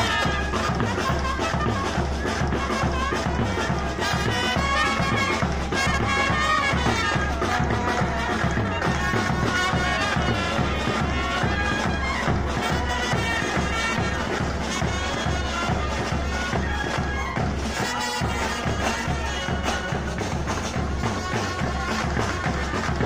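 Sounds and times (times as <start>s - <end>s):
brass band playing folk dance: 0.0s - 23.0s
steady drum beat: 0.0s - 23.0s.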